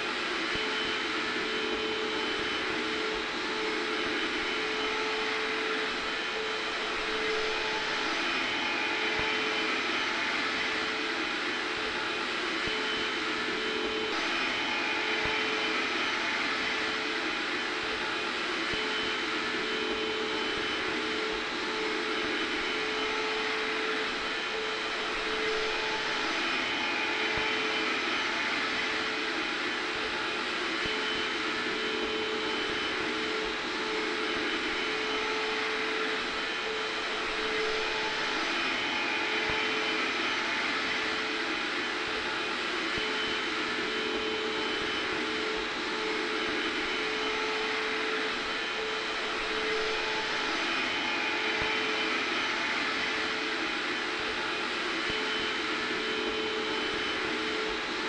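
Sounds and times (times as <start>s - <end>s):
hair dryer blowing: 0.0s - 58.0s
vacuum cleaner running: 0.0s - 58.0s.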